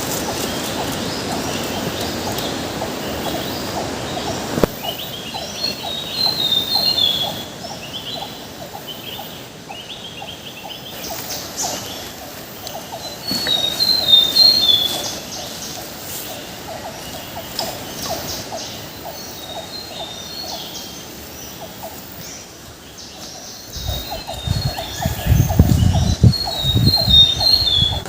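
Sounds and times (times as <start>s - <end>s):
insects ticking rhythmically: 0.0s - 28.0s.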